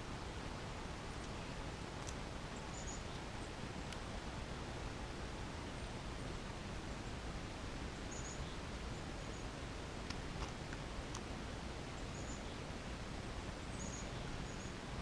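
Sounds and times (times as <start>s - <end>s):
outdoor background hiss: 0.0s - 15.0s
songbirds chirping: 0.0s - 15.0s.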